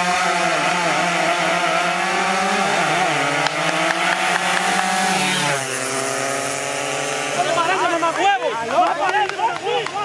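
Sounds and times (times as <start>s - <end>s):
engine revving high: 0.0s - 8.3s.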